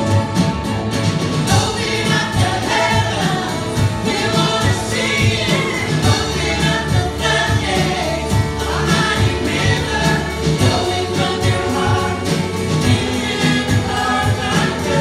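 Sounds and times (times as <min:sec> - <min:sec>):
live band with singing: 0:00.0 - 0:15.0.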